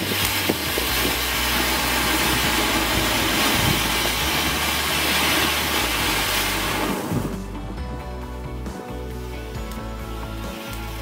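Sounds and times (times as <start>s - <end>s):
fountain firework hissing: 0.0s - 7.8s, 9.0s - 11.0s.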